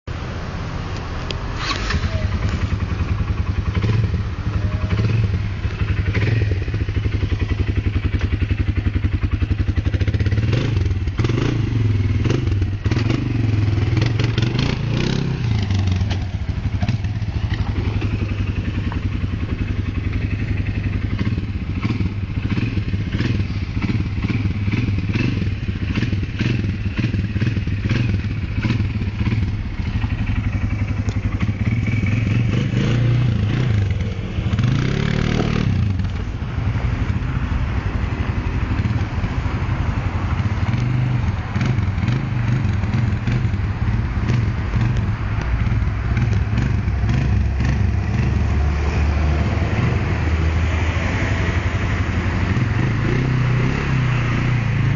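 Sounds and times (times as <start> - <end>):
quad engine revving: 1.5 - 54.9.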